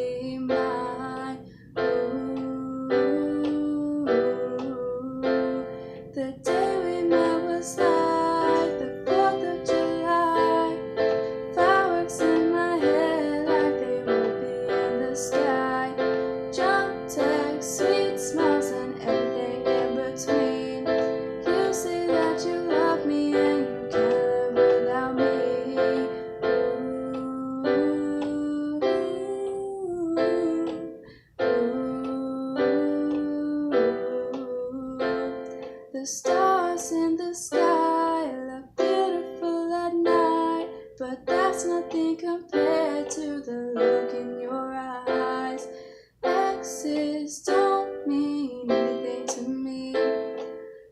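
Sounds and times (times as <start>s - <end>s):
keyboard playing chords: 0.0s - 50.9s.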